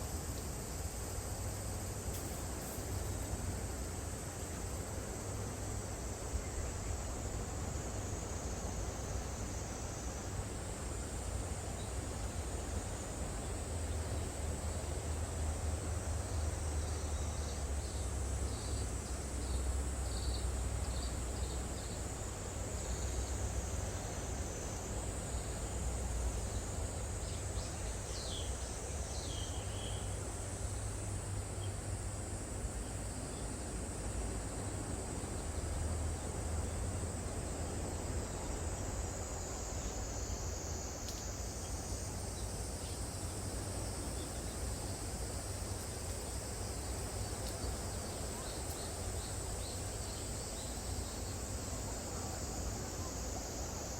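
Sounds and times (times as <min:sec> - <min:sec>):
cicadas droning: 0:00.0 - 0:53.9.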